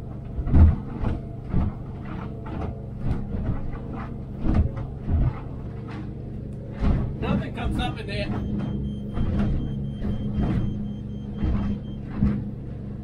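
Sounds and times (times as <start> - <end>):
hull slamming on waves: 0.0 - 13.0
outboard motor humming: 0.0 - 13.0.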